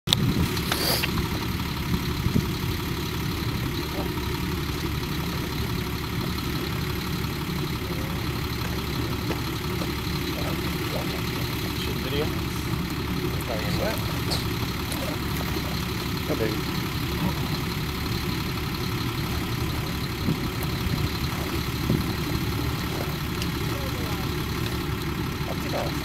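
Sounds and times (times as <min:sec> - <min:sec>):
diesel engines rumbling: 0:00.1 - 0:26.0.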